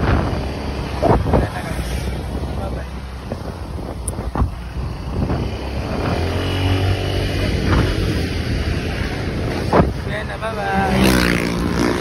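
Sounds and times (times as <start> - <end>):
street traffic: 0.0 - 12.0
wind on microphone: 0.0 - 12.0.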